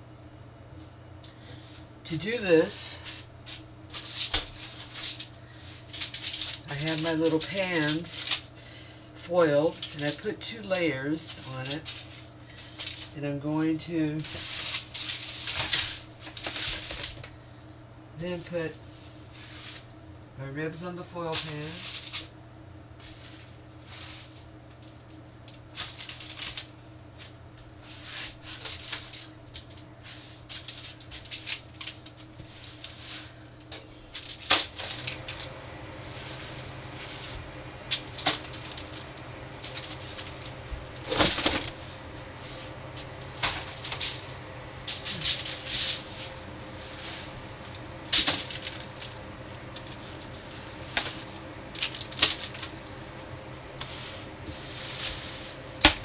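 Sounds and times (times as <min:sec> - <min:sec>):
steady low hum: 0:00.0 - 0:56.0
plastic and foil crinkling: 0:02.9 - 0:08.8, 0:09.4 - 0:13.2, 0:14.2 - 0:17.3, 0:21.4 - 0:22.3, 0:23.0 - 0:53.2, 0:53.8 - 0:56.0.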